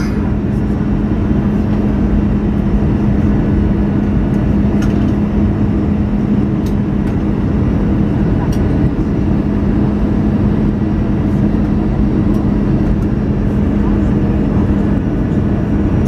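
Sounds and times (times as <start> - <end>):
jet engines and airflow rushing: 0.0 - 16.0
low hum: 0.0 - 16.0.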